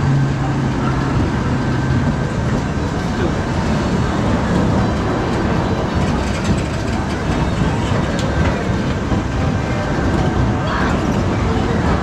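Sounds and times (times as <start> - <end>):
ride machinery rumbling: 0.0 - 12.0.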